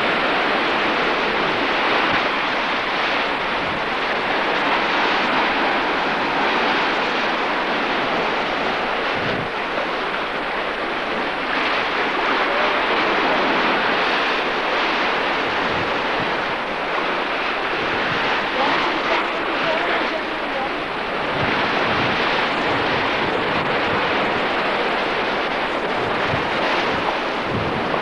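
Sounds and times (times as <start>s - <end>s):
surf rushing on a beach: 0.0s - 28.0s
wind blowing across microphone: 0.0s - 28.0s.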